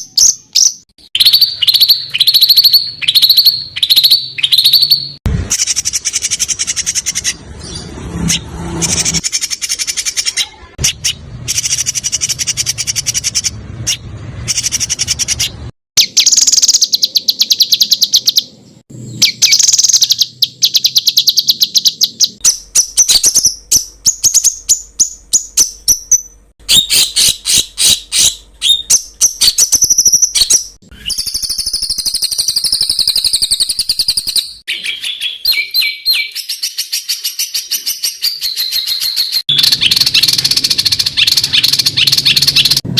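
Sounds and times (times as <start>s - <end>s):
songbird trills and sharp notes: 0.0s - 42.9s.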